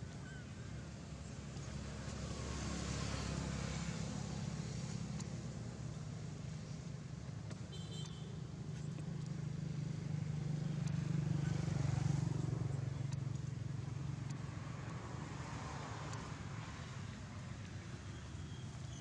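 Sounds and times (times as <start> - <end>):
road noise: 0.0 - 19.0
traffic engine hum: 0.0 - 19.0.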